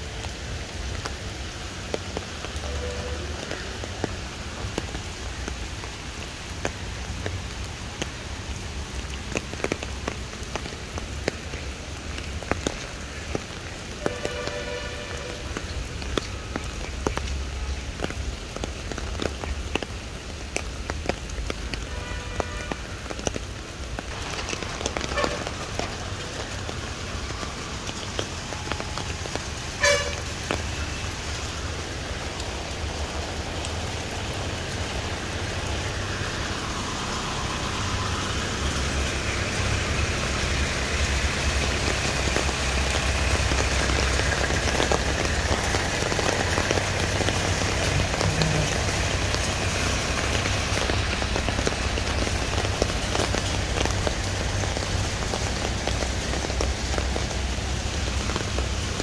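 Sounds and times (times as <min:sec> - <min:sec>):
rain on paving and water: 0:00.0 - 0:59.0.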